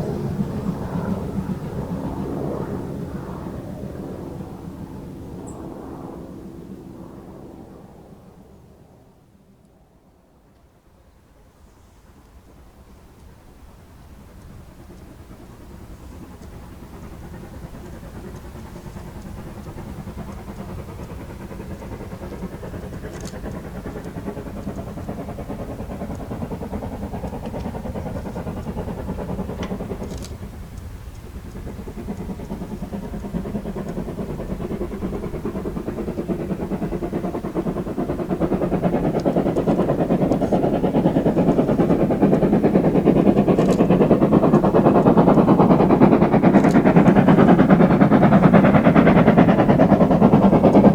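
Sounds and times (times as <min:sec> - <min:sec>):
steam locomotive chuffing: 0:00.0 - 0:05.5, 0:10.7 - 0:50.9.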